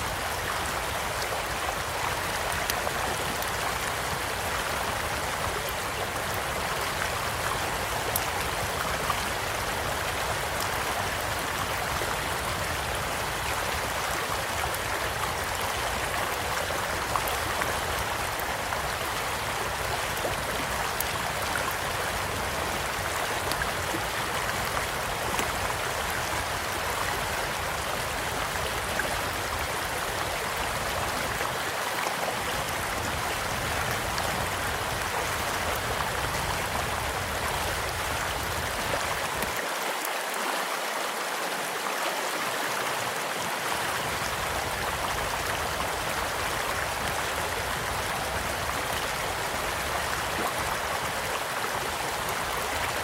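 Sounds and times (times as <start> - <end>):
stream flowing: 0.0 - 53.0.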